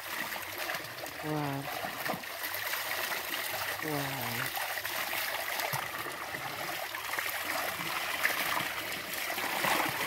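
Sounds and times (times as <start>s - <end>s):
water pouring from pipe splashing: 0.0s - 10.0s.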